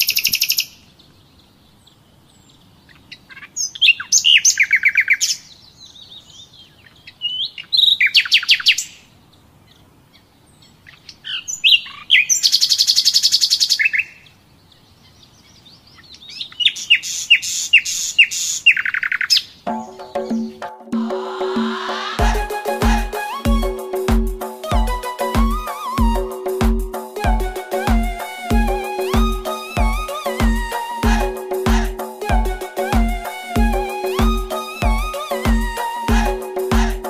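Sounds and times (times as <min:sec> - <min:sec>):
songbird singing: 0:00.0 - 0:20.6, 0:22.6 - 0:36.8.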